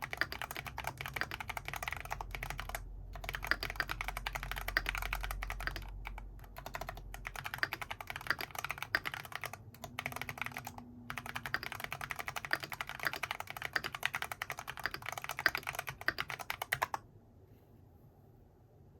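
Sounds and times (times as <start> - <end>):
mechanical keyboard typing: 0.0 - 17.0.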